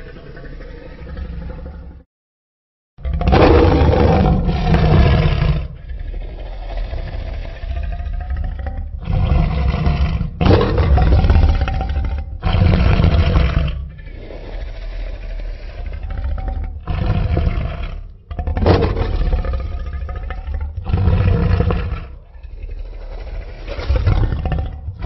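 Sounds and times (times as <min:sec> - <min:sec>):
dinosaur roars and growls: 0:00.0 - 0:02.0, 0:03.0 - 0:25.0.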